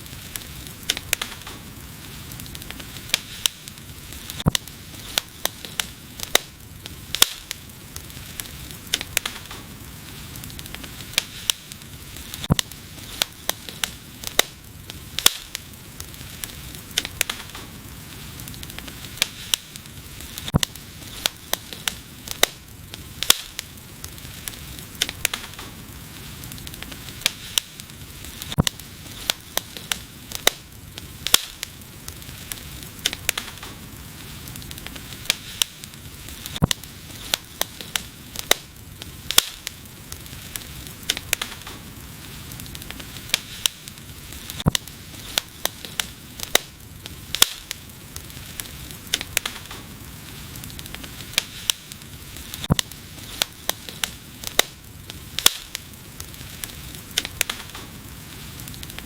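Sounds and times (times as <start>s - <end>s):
flames hissing: 0.0s - 59.0s
wood fire crackling and popping: 0.0s - 59.0s.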